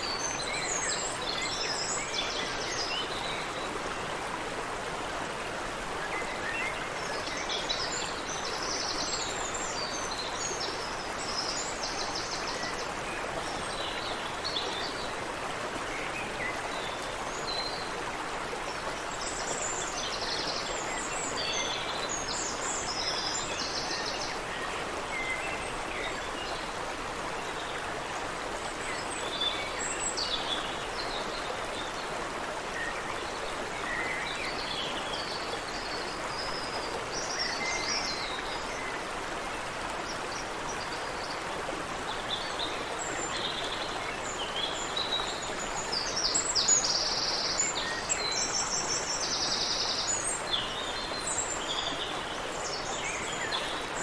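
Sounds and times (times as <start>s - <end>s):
creek water over rocks: 0.0s - 54.0s
small birds singing: 0.0s - 54.0s.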